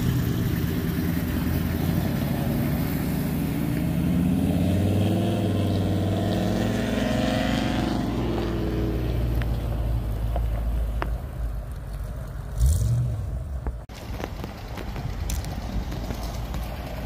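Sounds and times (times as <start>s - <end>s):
car engine pulling away: 0.0s - 17.0s.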